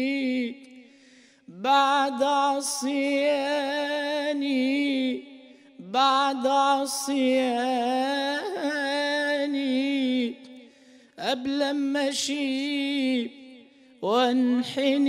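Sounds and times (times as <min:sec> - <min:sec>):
man singing unaccompanied: 0:01.5 - 0:10.5, 0:11.2 - 0:15.0.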